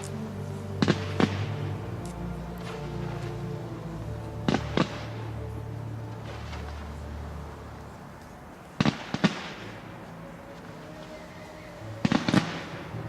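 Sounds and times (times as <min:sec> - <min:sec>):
music with low held notes: 0:00.0 - 0:13.0.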